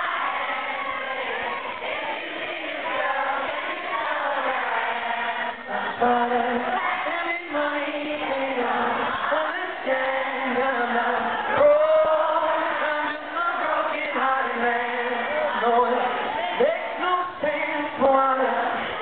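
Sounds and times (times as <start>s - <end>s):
crowd singing and chanting: 0.0s - 19.0s.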